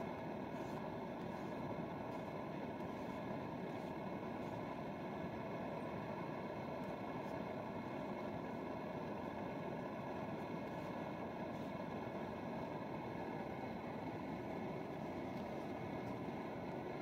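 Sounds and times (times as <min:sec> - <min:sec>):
gas camp stove roaring: 0:00.0 - 0:17.0.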